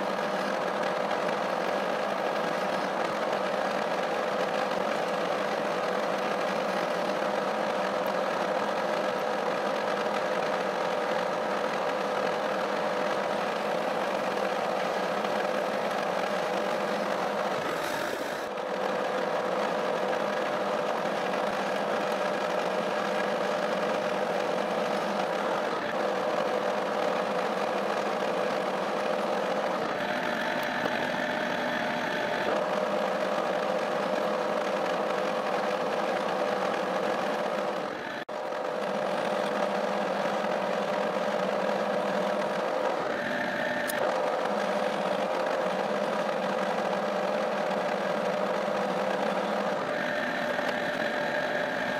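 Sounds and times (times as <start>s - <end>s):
lathe gear drive humming: 0.0s - 51.9s.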